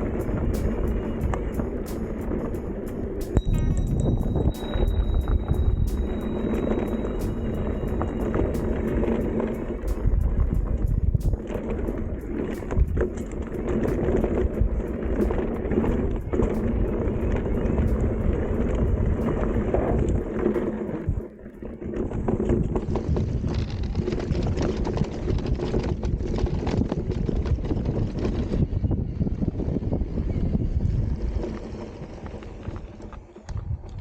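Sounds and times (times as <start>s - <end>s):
bike tyre and trail noise: 0.0s - 34.0s
wind buffeting microphone: 0.0s - 34.0s.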